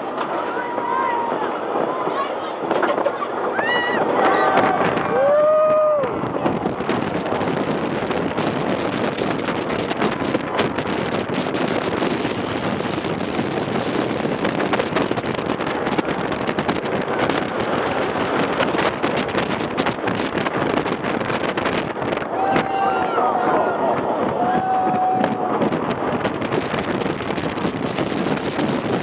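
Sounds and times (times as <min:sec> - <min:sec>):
roller coaster wheels rattling: 0:00.0 - 0:29.0
wind rushing over microphone: 0:00.0 - 0:29.0.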